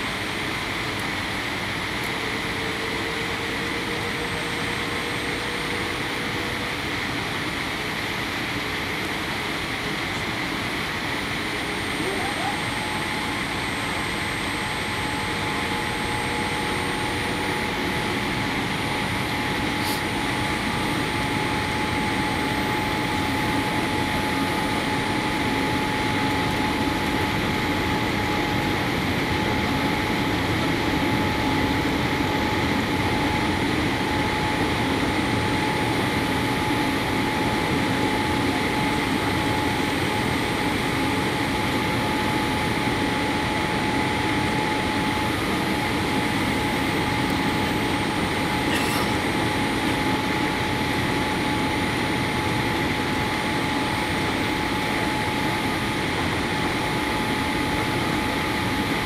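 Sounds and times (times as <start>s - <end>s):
airplane engine drone: 0.0s - 59.0s
thin steady whine: 0.0s - 59.0s.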